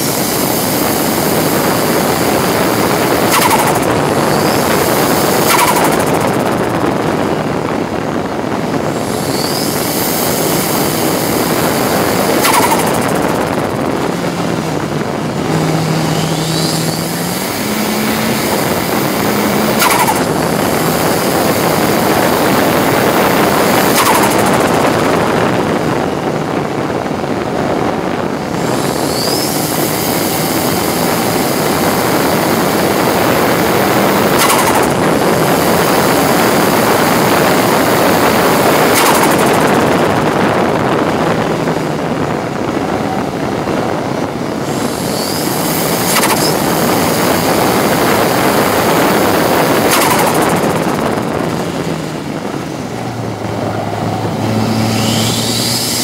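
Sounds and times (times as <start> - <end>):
sharp engine cracks: 0.0 - 7.3, 9.0 - 25.4, 28.6 - 40.8, 44.6 - 56.0
race car engine revving: 0.0 - 56.0.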